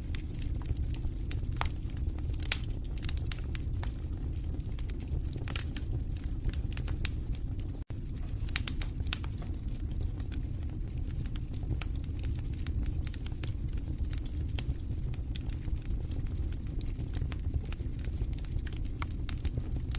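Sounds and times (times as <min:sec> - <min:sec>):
wood fire crackling: 0:00.0 - 0:19.9.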